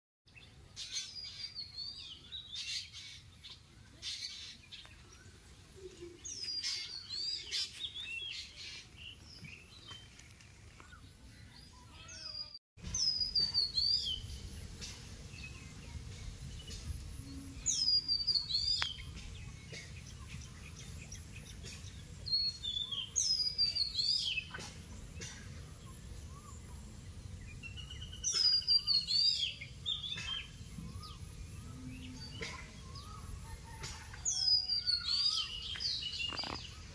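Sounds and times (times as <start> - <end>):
outdoor background noise: 0.3 - 36.9.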